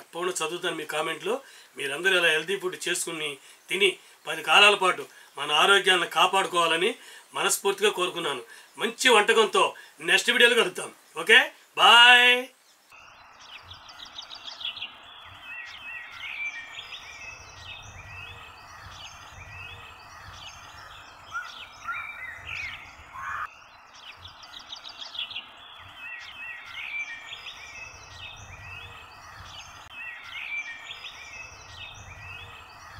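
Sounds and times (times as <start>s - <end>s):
birds chirping and trilling: 0.0s - 32.9s
outdoor background hiss: 0.0s - 32.9s.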